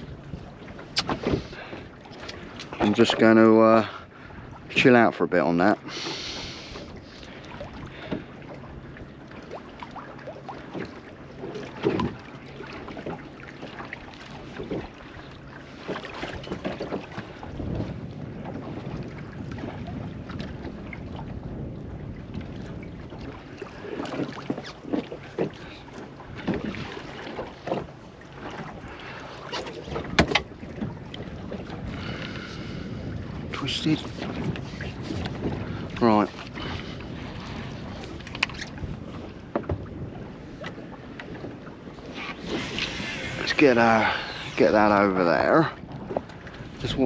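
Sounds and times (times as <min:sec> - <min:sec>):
wind on microphone: 0:00.0 - 0:05.2, 0:14.0 - 0:47.0
water lapping against boat hull: 0:00.0 - 0:47.0.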